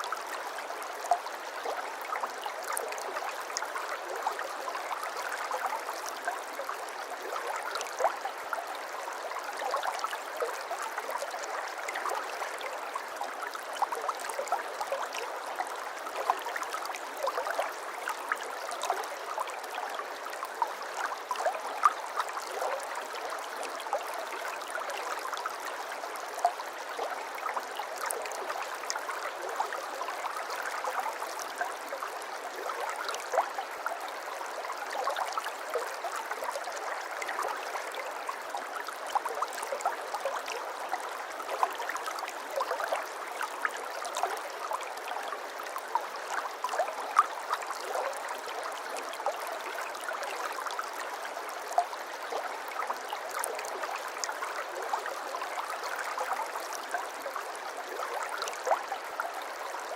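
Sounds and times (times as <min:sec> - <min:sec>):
water babbling over stones: 0:00.0 - 0:59.9.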